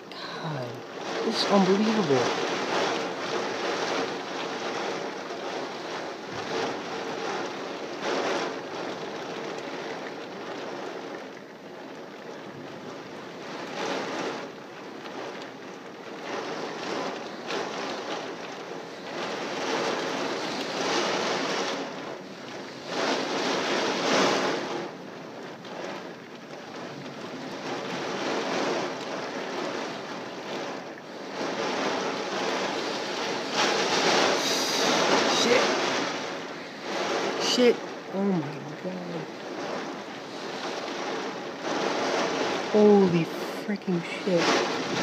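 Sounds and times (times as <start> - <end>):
gusting wind: 0.0 - 45.0
heavy rain: 0.0 - 45.0.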